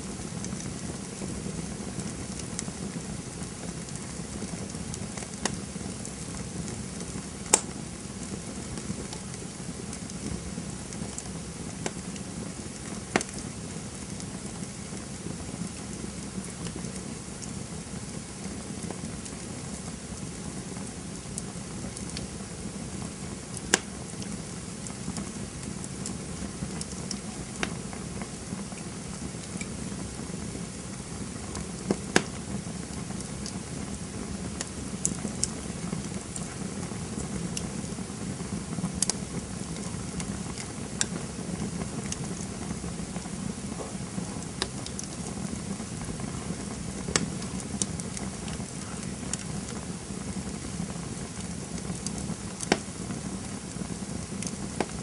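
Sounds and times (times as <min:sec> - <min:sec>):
burning wood crackling and popping: 0:00.0 - 0:55.0
campfire flames rumbling: 0:00.0 - 0:55.0.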